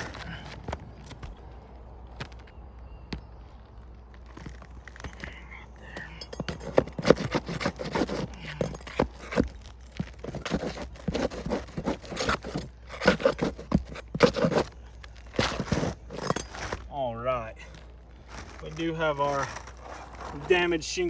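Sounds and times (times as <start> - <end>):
shingle scraping and crunching: 0.0 - 21.0.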